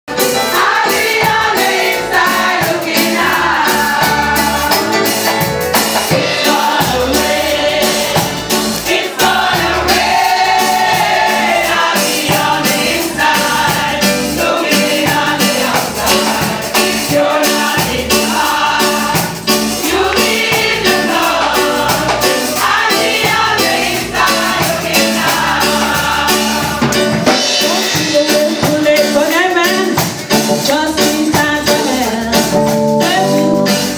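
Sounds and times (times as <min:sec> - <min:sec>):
gospel choir singing: 0:00.1 - 0:29.2
band accompaniment: 0:00.1 - 0:33.9
percussion beat: 0:00.1 - 0:33.9.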